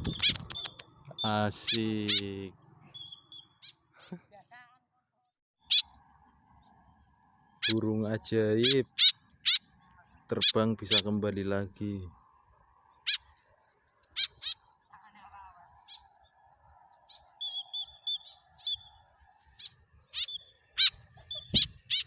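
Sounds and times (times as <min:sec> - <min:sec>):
bird chirping and twittering: 0:00.0 - 0:03.9, 0:05.6 - 0:11.4, 0:12.2 - 0:22.0.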